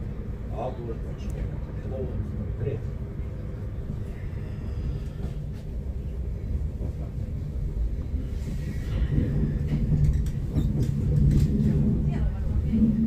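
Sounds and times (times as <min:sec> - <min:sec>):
train rumble from inside carriage: 0:00.0 - 0:13.0.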